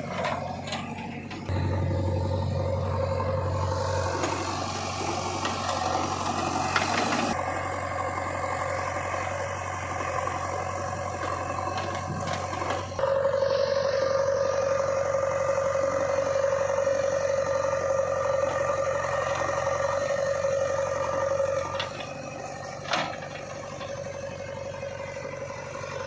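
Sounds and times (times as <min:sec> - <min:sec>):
diesel engine of heavy machinery: 0:00.0 - 0:26.0.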